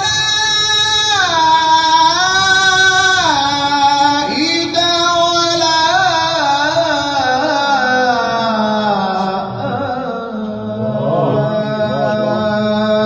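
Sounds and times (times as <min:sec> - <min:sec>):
person chanting melodically: 0:01.1 - 0:13.0.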